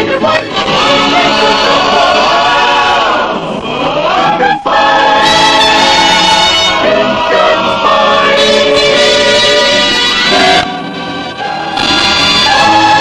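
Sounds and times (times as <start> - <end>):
choir singing held notes: 0.0 - 13.0
musical backing: 0.0 - 13.0.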